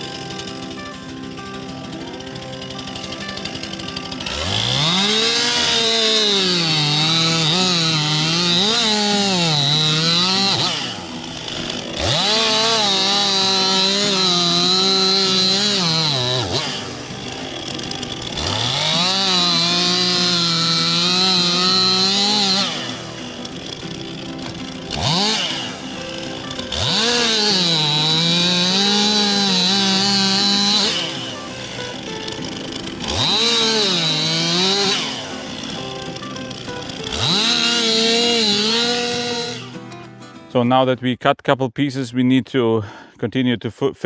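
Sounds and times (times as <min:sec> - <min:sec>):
chainsaw cutting through log: 0:00.0 - 0:40.5
chainsaw revving and idling: 0:00.0 - 0:40.6.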